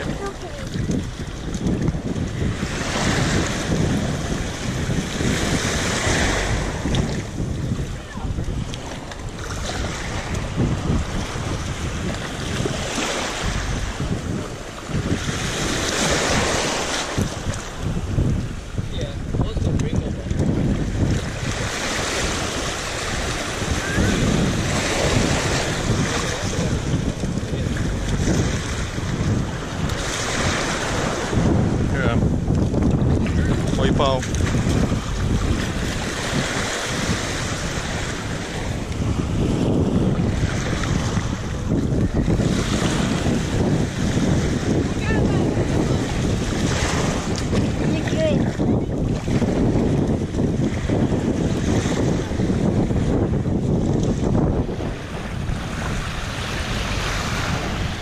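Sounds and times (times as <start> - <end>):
small waves washing over sand: 0.0 - 58.0
wind buffeting microphone: 0.0 - 58.0.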